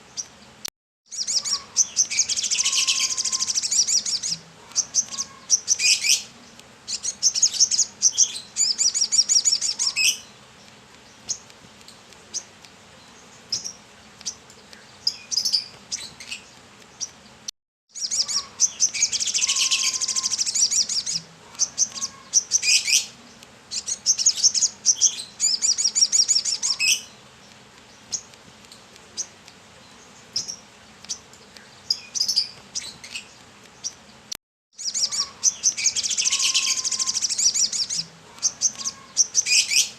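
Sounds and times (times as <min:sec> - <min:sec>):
bird chirping trills: 0:00.0 - 0:39.9.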